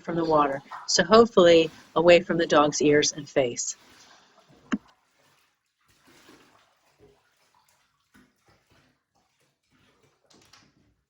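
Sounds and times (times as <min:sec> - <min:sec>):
water splashing in a bathtub: 0:00.0 - 0:11.0.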